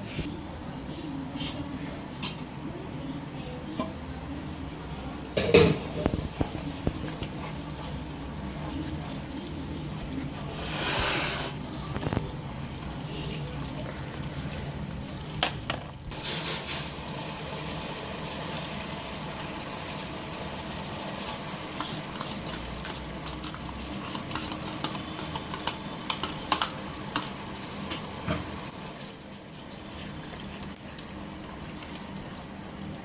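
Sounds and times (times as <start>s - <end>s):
spices sizzling in a pot: 3.8s - 33.0s.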